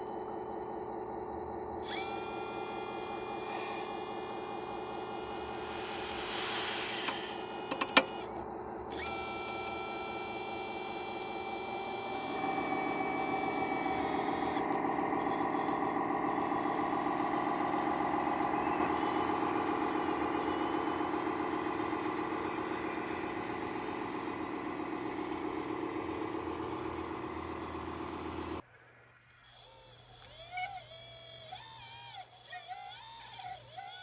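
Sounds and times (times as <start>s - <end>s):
toy excavator engine running: 0.0s - 34.0s.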